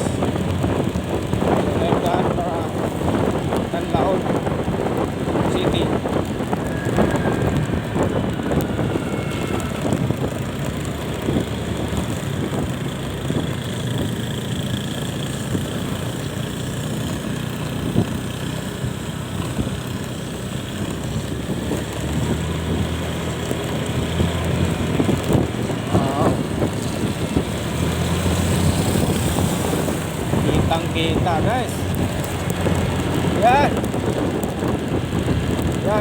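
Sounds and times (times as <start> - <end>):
motorcycle engine cruising: 0.0 - 36.0
wind and road noise: 0.0 - 36.0.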